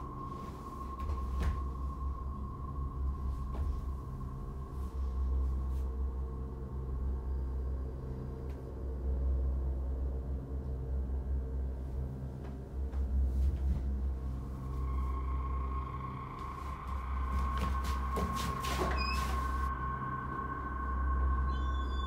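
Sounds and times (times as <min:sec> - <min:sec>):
deep steady drone: 0:00.0 - 0:22.0
faint sustained tones: 0:00.0 - 0:22.0.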